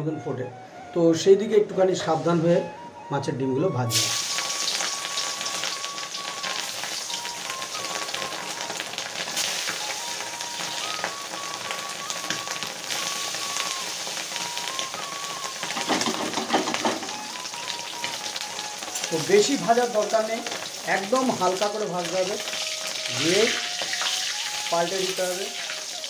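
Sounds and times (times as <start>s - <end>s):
food sizzling in hot oil: 3.9s - 26.0s.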